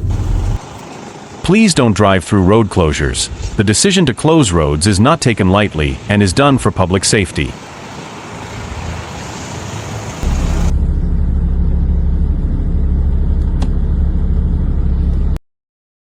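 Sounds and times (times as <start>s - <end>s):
vehicle engine rumbling: 0.0s - 1.6s, 2.2s - 15.4s.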